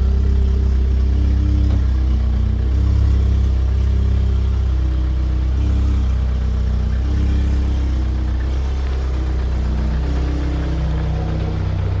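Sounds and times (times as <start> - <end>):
car engine idling with deep drone: 0.0 - 12.0.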